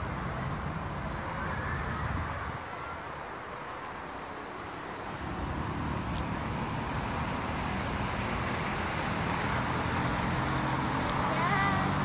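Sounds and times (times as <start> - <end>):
outdoor rumble with hiss: 0.0 - 12.0.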